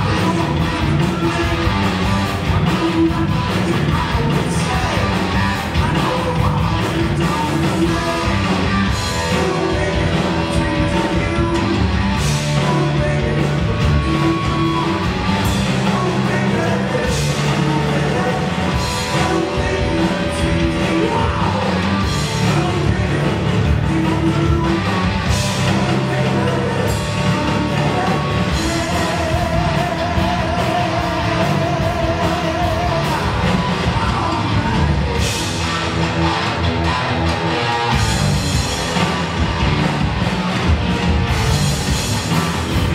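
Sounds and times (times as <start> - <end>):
bass guitar: 0.0 - 42.9
drum kit with cymbals: 0.0 - 42.9
electric guitar: 0.0 - 42.9
heavy metal band playing: 0.0 - 42.9.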